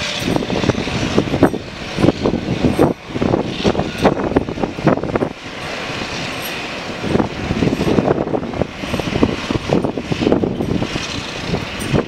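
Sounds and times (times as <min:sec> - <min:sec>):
jet engines whining: 0:00.0 - 0:12.0
wind buffeting microphone: 0:00.0 - 0:12.0.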